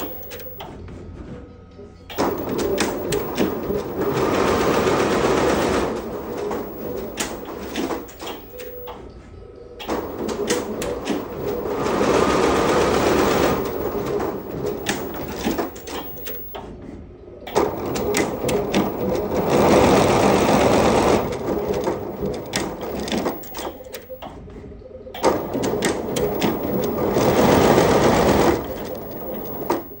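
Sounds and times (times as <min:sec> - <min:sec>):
embroidery machine clatter: 0:00.0 - 0:01.4, 0:02.0 - 0:09.2, 0:09.8 - 0:16.7, 0:17.5 - 0:24.4, 0:25.2 - 0:30.0.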